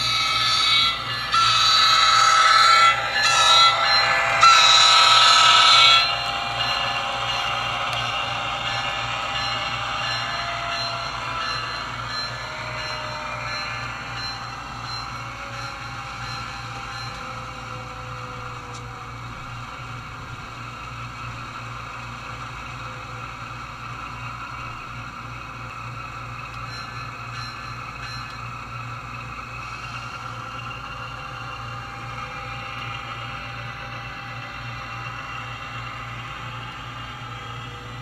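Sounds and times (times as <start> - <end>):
model locomotive drone: 0.0 - 38.0.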